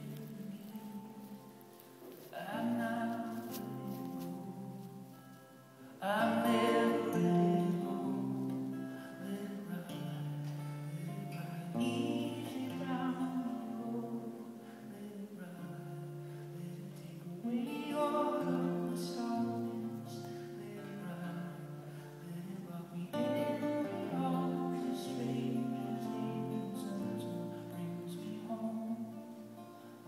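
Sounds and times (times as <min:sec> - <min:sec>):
acoustic guitar chords strummed: 0:00.0 - 0:30.0.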